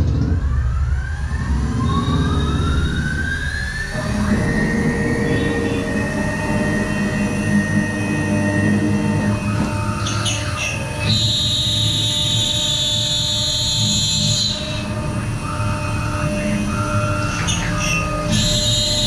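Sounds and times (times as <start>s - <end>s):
cnc router rumble: 0.0s - 19.0s
high whine: 0.0s - 19.0s.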